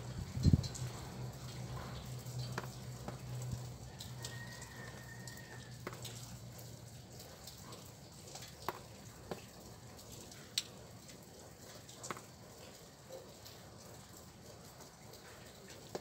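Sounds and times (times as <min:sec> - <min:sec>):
faint rain: 0:00.0 - 0:16.0
water drips tapping: 0:00.0 - 0:16.0.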